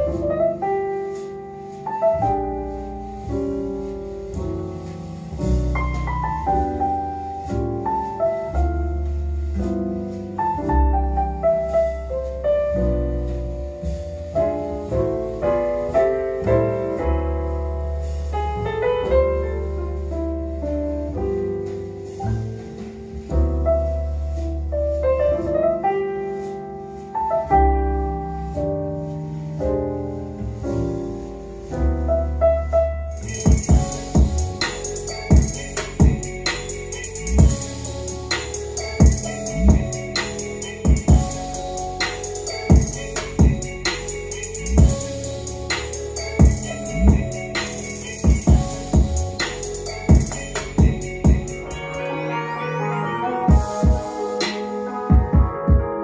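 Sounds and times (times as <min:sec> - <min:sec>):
low bass notes: 0:00.0 - 0:25.6, 0:26.9 - 0:56.0
jazz piano music: 0:00.0 - 0:56.0.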